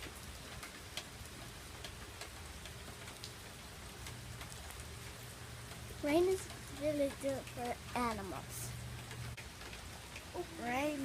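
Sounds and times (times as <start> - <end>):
rain hissing: 0.0 - 11.0
raindrops ticking: 0.0 - 11.0.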